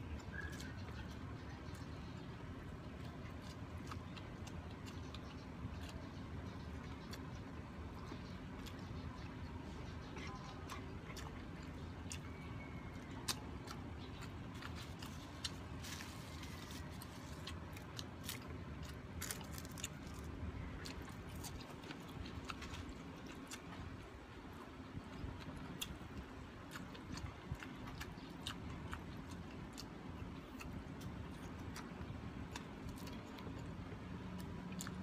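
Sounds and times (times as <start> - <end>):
low background hum: 0.0 - 35.0
person chewing food: 0.0 - 35.0.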